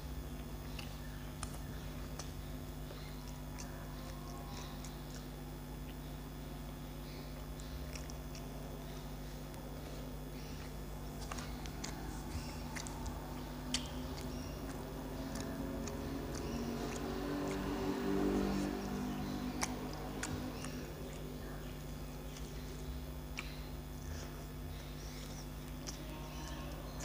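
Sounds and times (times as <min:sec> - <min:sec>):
steady low hum: 0:00.0 - 0:27.0
chewing: 0:00.3 - 0:27.0.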